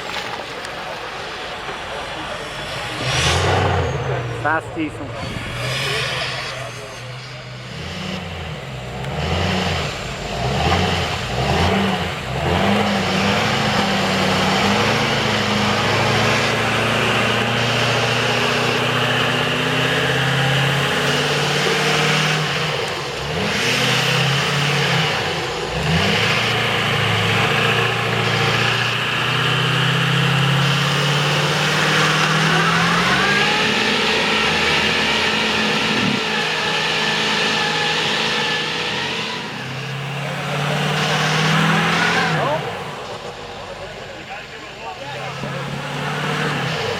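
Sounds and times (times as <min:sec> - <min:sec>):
diesel engine revving hard: 0:00.0 - 0:46.9.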